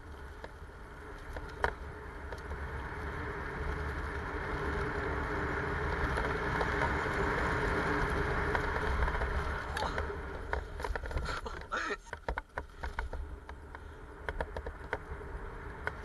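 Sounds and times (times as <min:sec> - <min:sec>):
bike tyres on grass: 0:00.0 - 0:16.0.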